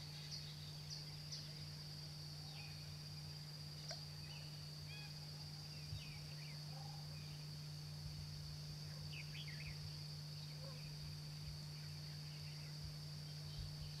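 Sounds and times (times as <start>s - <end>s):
high-pitched insect drone: 0.0s - 14.0s
low steady hum: 0.0s - 14.0s.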